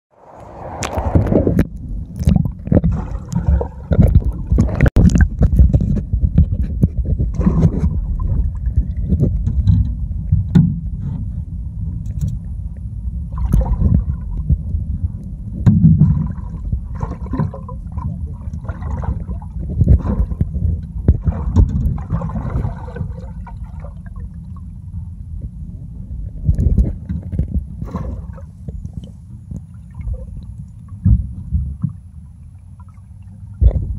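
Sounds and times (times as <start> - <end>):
underwater sloshing and gurgling: 0.1 - 33.9.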